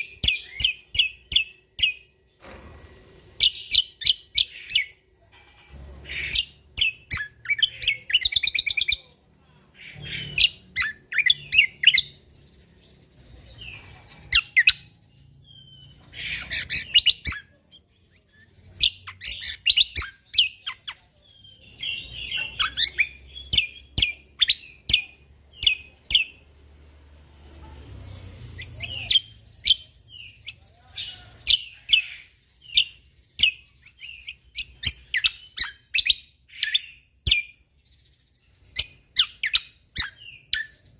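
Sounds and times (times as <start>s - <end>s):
bird chirping and trilling: 0.0s - 2.4s, 3.3s - 27.0s, 27.7s - 40.9s.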